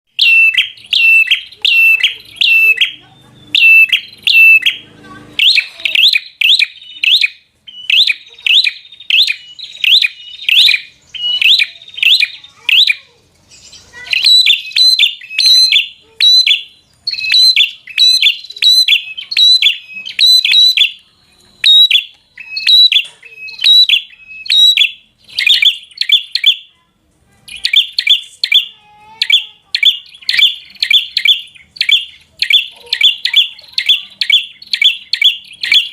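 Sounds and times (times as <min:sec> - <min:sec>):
bird chirping rapidly: 0:00.1 - 0:26.8, 0:27.5 - 0:35.9.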